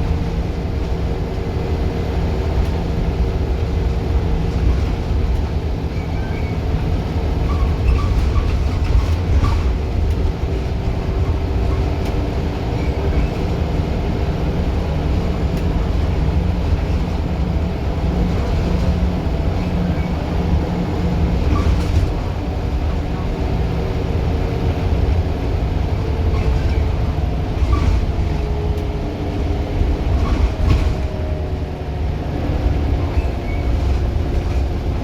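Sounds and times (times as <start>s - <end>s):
bus diesel engine drone: 0.0s - 35.0s.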